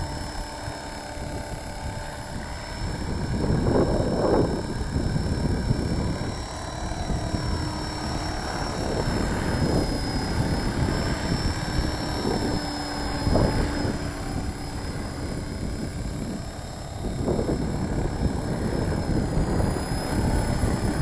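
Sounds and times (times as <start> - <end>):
rc helicopter rotor whine: 0.0 - 21.0
wind rumbling on microphone: 0.0 - 21.0.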